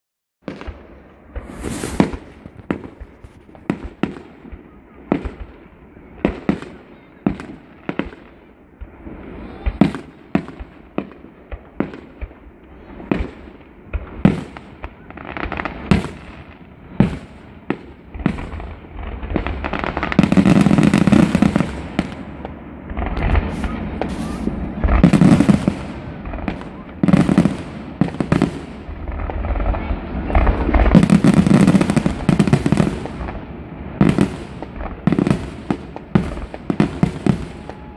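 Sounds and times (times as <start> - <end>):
fireworks bursting: 0.4 - 37.9.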